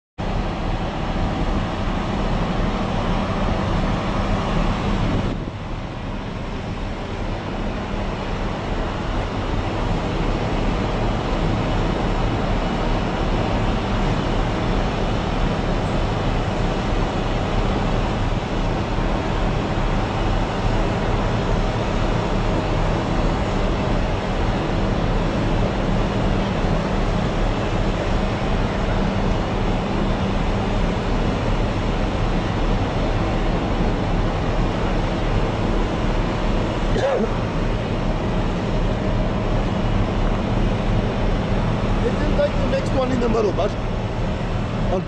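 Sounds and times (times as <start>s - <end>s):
heavy machinery drone: 0.2s - 45.0s.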